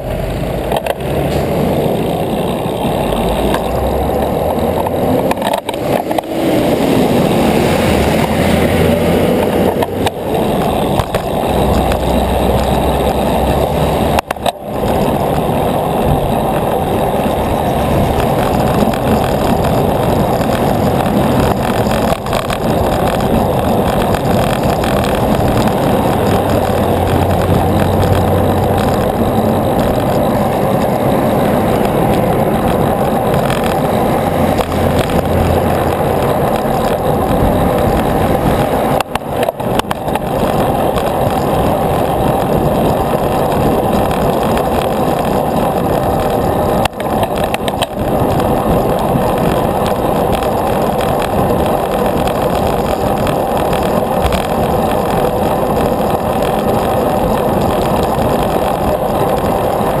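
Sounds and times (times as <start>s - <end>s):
bicycle road noise: 0.0s - 60.0s
wind on microphone: 0.0s - 60.0s.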